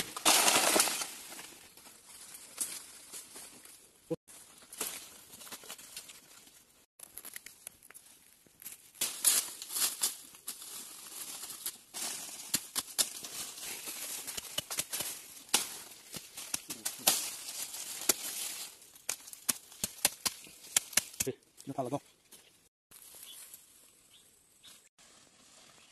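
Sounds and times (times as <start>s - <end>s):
dry leaves rustling and crackling: 0.0s - 21.3s, 22.9s - 23.9s.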